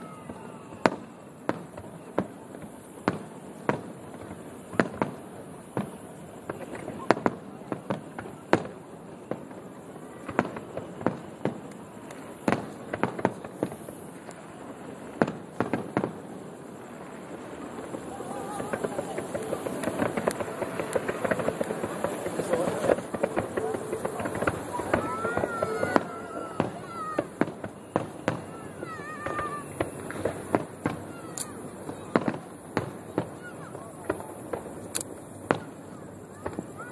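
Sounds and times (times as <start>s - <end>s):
fireworks bursting: 0.0s - 36.9s.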